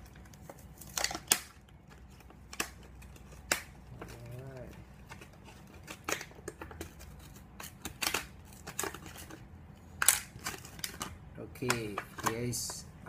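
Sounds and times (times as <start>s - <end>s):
plastic packaging crinkling: 0.0s - 12.7s.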